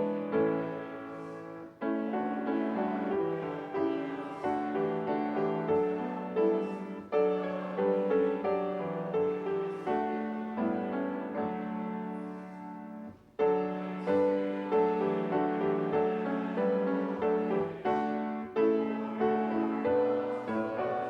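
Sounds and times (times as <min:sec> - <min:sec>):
slow piano piece: 0:00.0 - 0:21.0.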